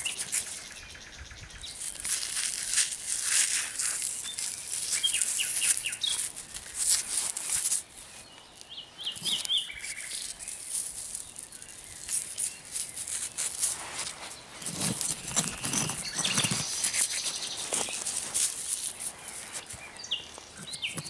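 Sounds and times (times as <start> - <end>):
hands rummaging in soil and grass: 0.0 - 0.8, 1.6 - 21.0
bird chirping: 0.0 - 6.7, 7.4 - 21.0.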